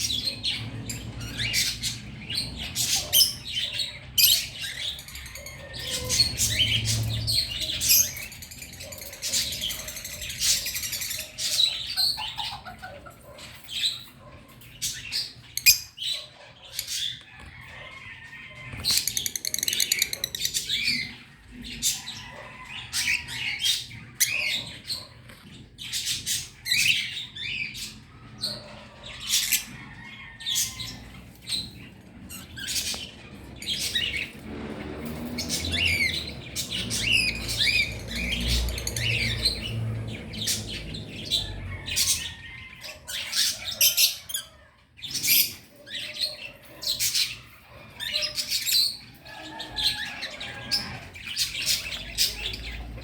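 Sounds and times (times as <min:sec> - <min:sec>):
birds chirping and squawking: 0:00.0 - 0:53.0.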